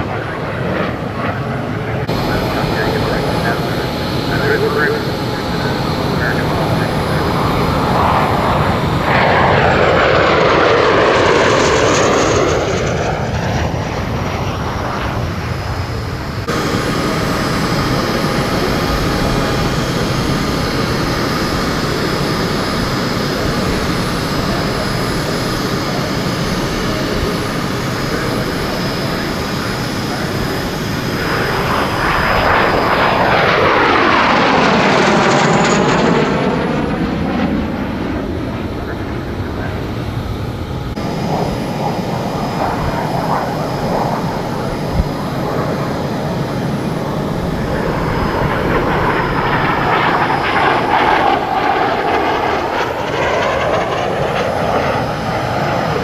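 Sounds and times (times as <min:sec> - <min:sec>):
distant jet noise: 0:00.0 - 0:56.0
jet passing close: 0:00.0 - 0:56.0.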